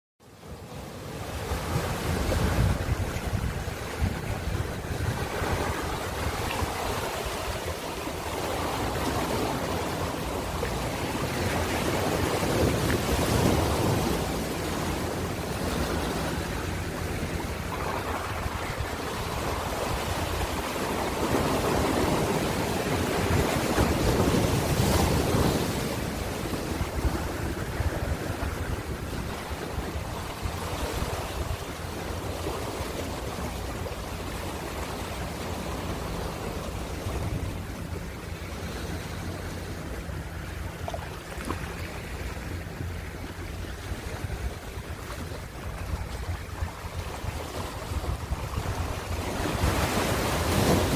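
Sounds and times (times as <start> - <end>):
ocean waves breaking: 0.2 - 50.9
wind buffeting microphone: 1.1 - 50.9.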